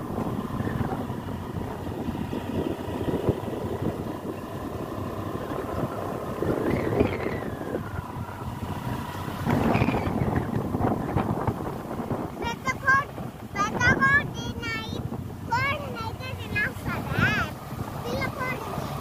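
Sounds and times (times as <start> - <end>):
vehicle engine running: 0.0 - 19.0
wind buffeting microphone: 0.0 - 19.0.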